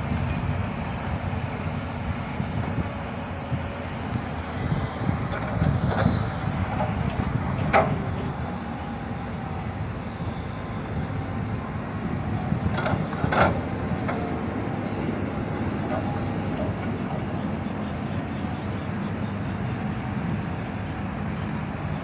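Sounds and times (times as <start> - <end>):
diesel machinery rumbling: 0.0 - 22.0.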